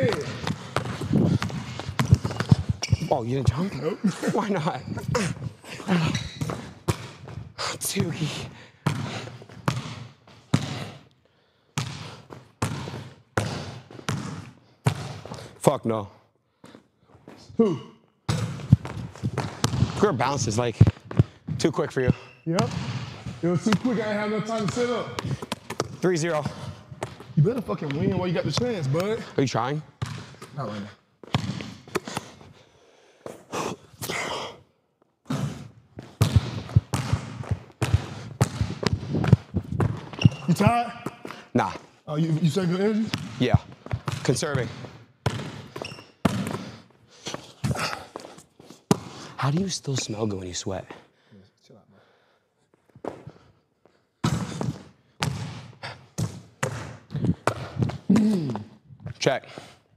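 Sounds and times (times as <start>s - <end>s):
basketball bouncing in gym: 0.0s - 3.7s, 4.7s - 11.1s, 11.7s - 15.6s, 17.2s - 32.5s, 35.3s - 41.8s, 42.4s - 49.3s, 54.2s - 59.7s.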